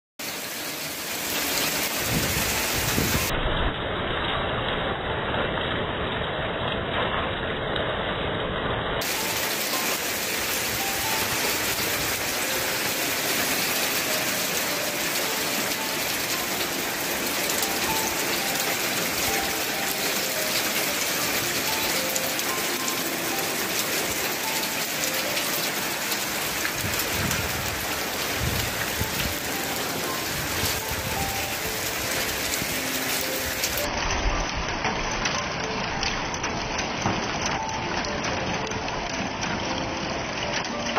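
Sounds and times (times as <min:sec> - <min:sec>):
hail pelting on a car and gravel: 0:00.2 - 0:03.3, 0:09.0 - 0:40.9.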